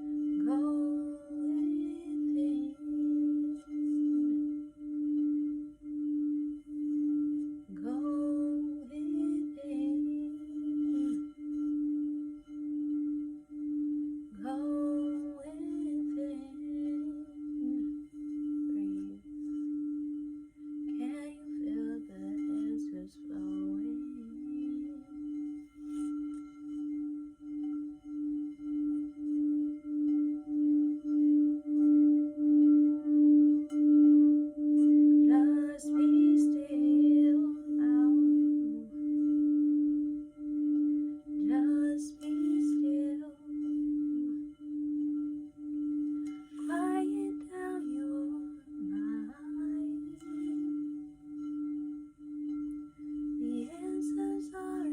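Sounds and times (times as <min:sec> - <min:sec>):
singing bowl tone: 0:00.0 - 0:54.9.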